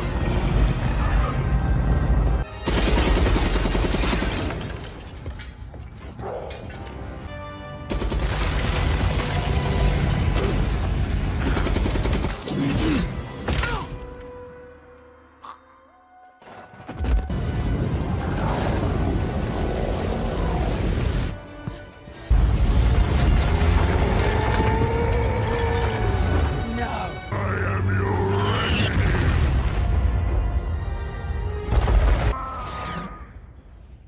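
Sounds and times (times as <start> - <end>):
film battle music: 0.0 - 34.0.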